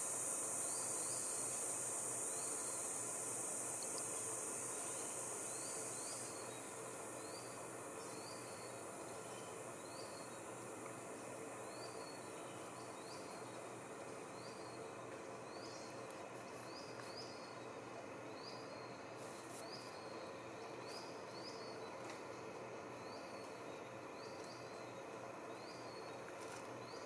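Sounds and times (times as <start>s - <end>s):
high insect drone: 0.0s - 27.0s
soft background hiss: 0.0s - 27.0s.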